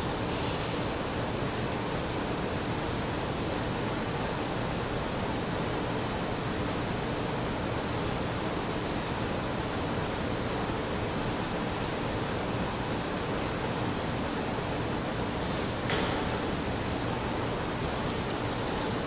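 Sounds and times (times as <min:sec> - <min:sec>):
room noise hiss: 0:00.0 - 0:19.0.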